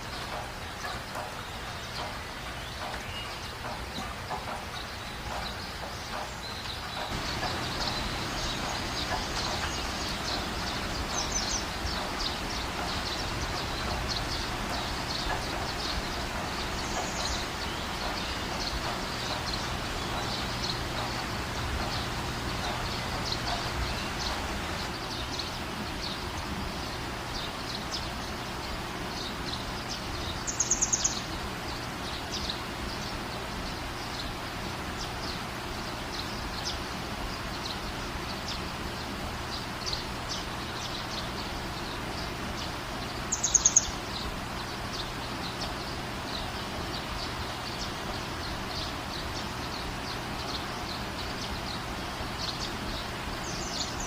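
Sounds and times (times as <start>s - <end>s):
birds chirping: 0.0s - 54.0s
rain falling: 0.0s - 54.0s.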